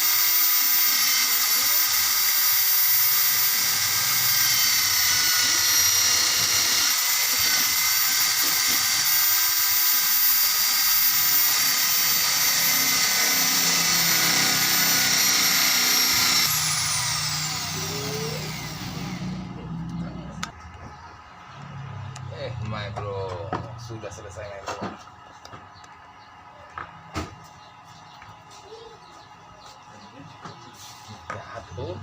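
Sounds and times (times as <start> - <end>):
electric motor whining: 0.0 - 27.3.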